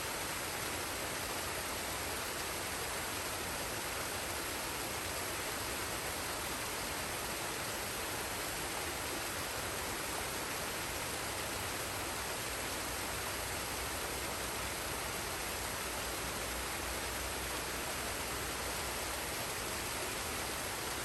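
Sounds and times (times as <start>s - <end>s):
waterfall and stream rushing: 0.0s - 21.0s.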